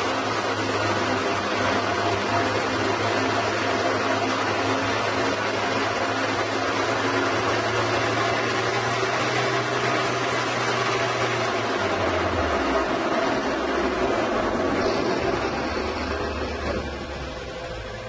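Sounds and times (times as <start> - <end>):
band saw cutting log: 0.0 - 18.0.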